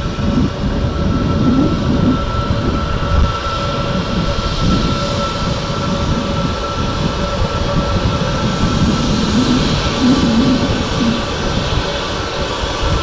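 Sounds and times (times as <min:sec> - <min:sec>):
jet engine rumble: 0:00.0 - 0:13.0
jet engine whine: 0:00.0 - 0:13.0.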